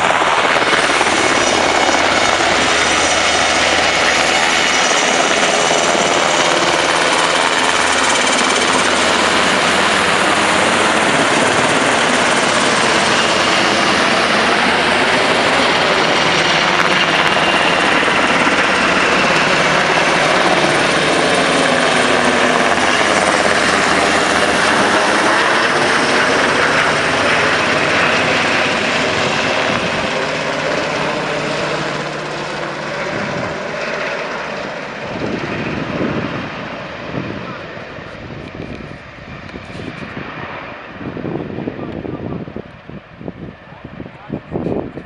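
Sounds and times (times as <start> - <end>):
helicopter flying overhead: 0.0 - 45.0.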